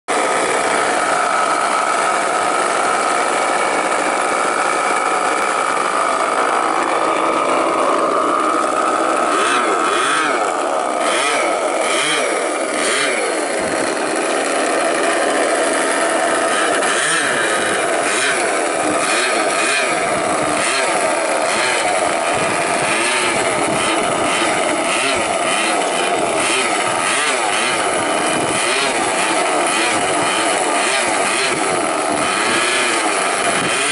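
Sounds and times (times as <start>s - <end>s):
model plane glow engines running: 0.1s - 33.9s.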